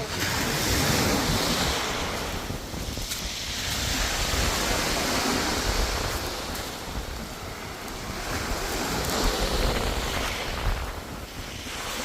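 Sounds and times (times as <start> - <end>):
sea waves washing onto shore: 0.0 - 12.0
wind buffeting microphone: 0.0 - 12.0.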